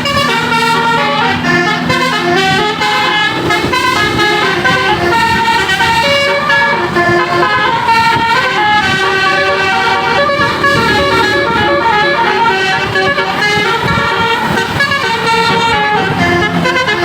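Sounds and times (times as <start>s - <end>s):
bus air trumpets playing tune: 0.0s - 17.0s.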